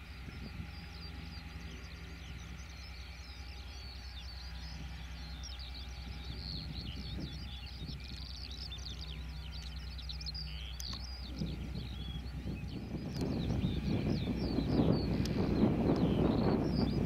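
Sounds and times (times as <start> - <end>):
birds chirping: 0.0 - 17.0
diesel locomotive engine droning: 0.0 - 17.0.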